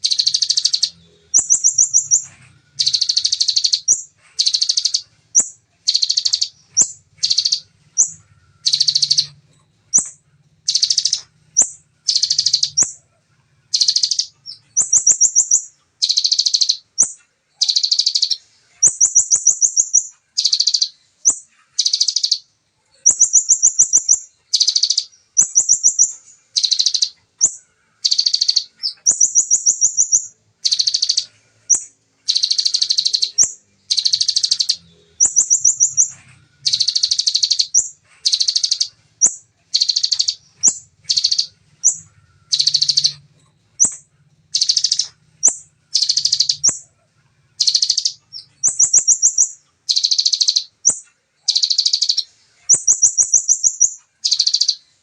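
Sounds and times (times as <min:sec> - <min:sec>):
songbird trilling: 0:00.0 - 0:13.0, 0:13.7 - 0:22.4, 0:23.0 - 0:46.9, 0:47.6 - 0:55.0.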